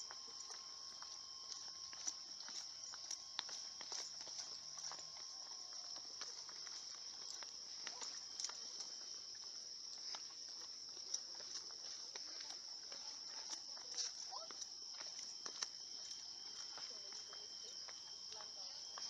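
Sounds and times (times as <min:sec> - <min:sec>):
footsteps on a trail: 0:00.0 - 0:19.0
insects droning: 0:00.0 - 0:19.0.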